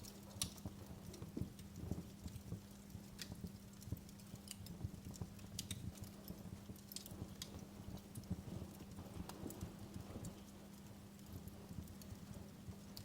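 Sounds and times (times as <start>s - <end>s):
faint low hum: 0.0s - 13.0s
wood fire crackling and popping: 0.0s - 13.0s.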